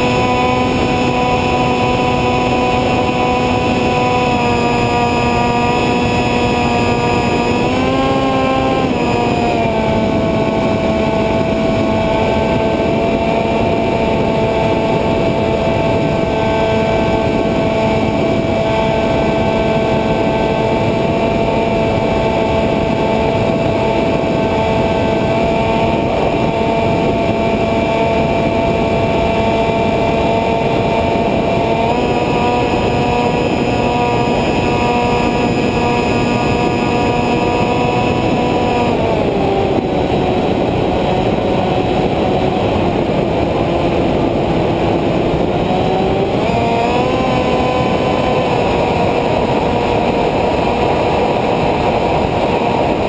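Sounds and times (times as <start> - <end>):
model airplane motor whine: 0.0 - 53.0
wind rush: 0.0 - 53.0.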